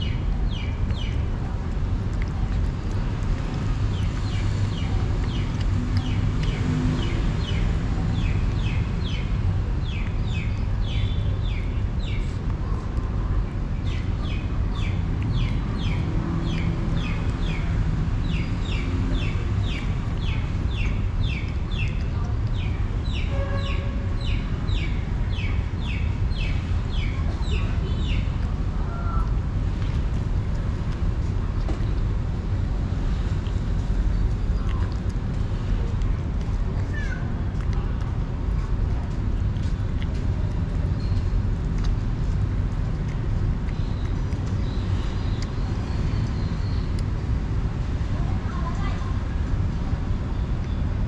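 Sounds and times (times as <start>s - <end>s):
cat chewing wet food: 0.1s - 23.1s, 26.5s - 51.0s.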